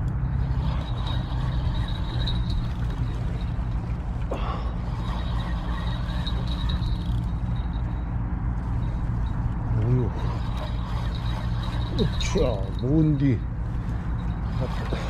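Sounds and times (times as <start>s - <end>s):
fishing reel whirring: 0.0s - 15.0s
steady low rumble: 0.0s - 15.0s.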